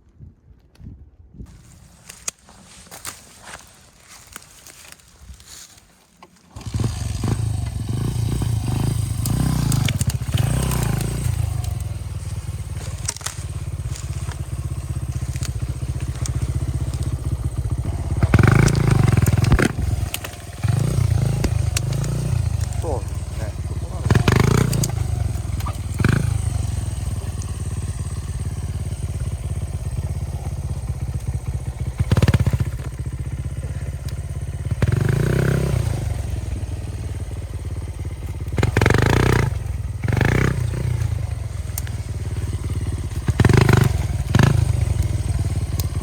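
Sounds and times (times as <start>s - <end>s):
motorcycle engine rumble: 1.5s - 46.0s.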